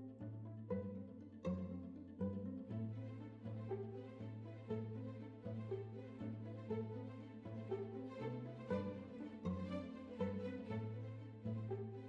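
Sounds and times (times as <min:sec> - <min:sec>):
string instruments music: 0:00.0 - 0:12.0.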